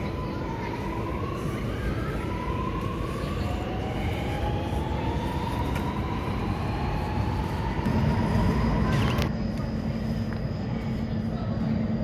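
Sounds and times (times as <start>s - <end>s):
steady low hum: 0.0s - 12.0s
train traction motors whining: 0.0s - 12.0s.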